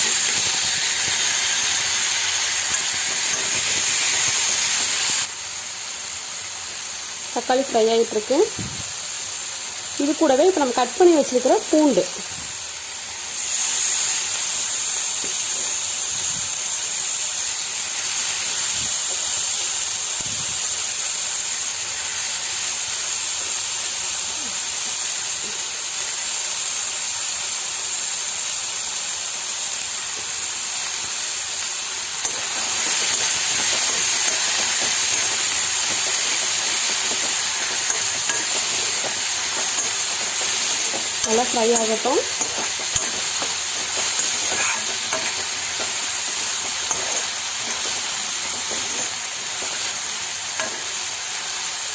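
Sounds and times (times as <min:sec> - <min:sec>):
garlic sizzling in a pan: 0:00.0 - 0:51.9.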